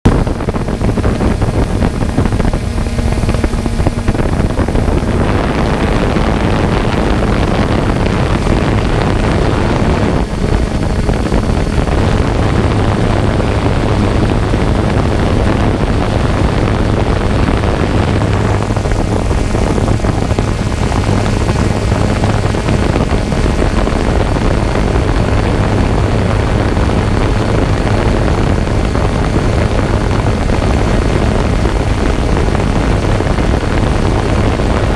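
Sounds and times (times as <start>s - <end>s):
drone propellers humming: 0.0s - 34.9s.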